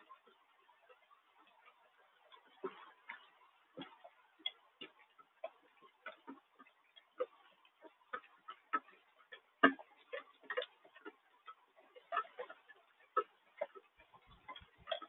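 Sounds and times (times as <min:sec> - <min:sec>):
raindrops tapping on hard surface: 0:00.0 - 0:15.0.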